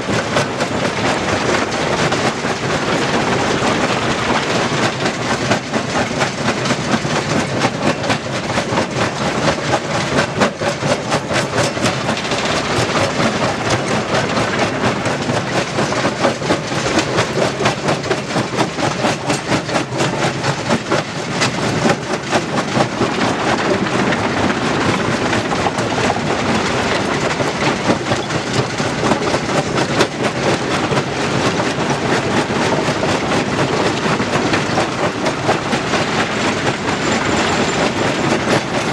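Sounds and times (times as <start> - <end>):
stone crushing machinery running: 0.0 - 38.9.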